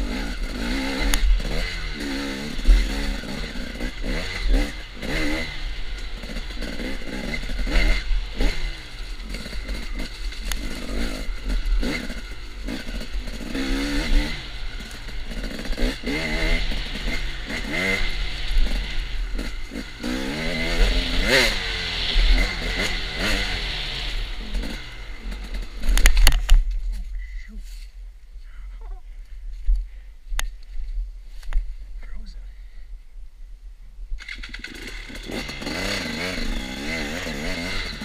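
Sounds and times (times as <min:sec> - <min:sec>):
dirt bike engine revving: 0:00.0 - 0:26.6, 0:34.2 - 0:38.0.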